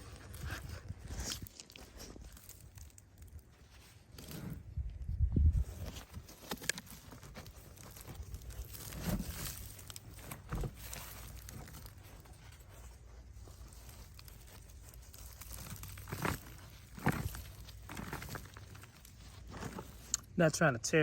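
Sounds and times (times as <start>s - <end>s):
hands digging in soil: 0.0s - 20.4s.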